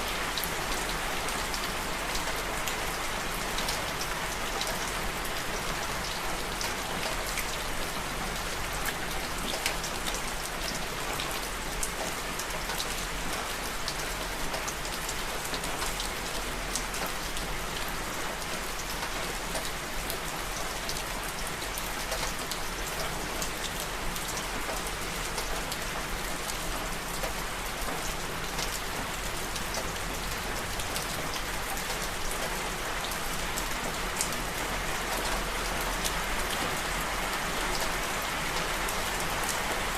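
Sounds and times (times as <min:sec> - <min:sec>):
raindrops ticking on a surface: 0:00.0 - 0:39.9.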